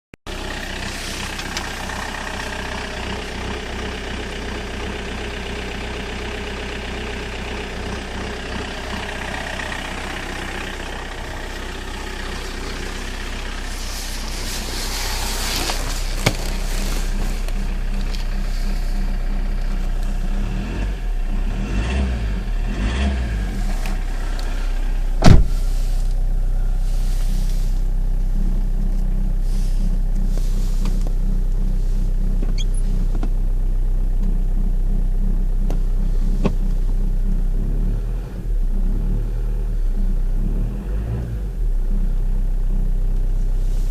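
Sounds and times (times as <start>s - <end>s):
diesel engine running: 0.3s - 43.9s.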